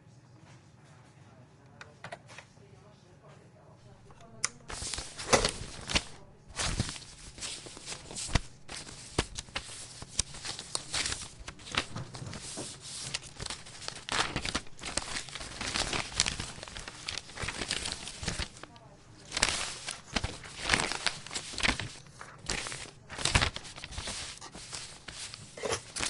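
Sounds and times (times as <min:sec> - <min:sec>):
rustling: 0:04.6 - 0:26.0.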